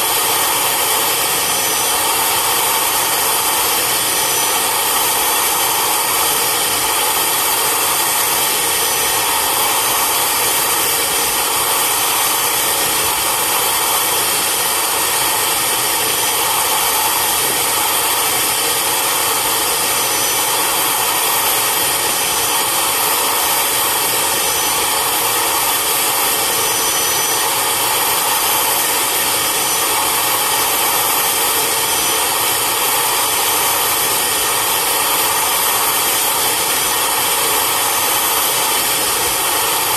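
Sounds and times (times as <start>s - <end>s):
vacuum motor high-pitched rushing: 0.0s - 39.9s.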